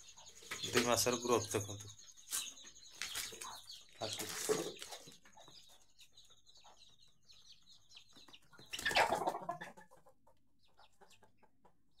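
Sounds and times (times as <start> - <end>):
chicks peeping and chirping: 0.0 - 12.0.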